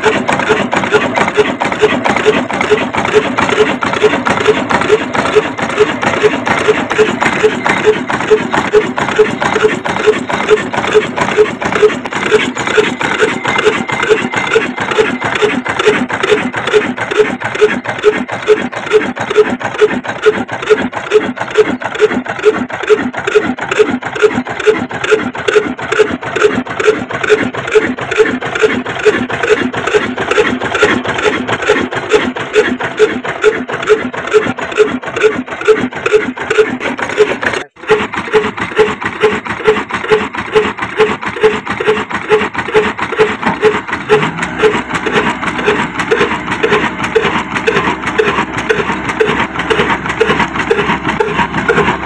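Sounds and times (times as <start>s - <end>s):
stationary diesel engine knocking: 0.0s - 52.0s.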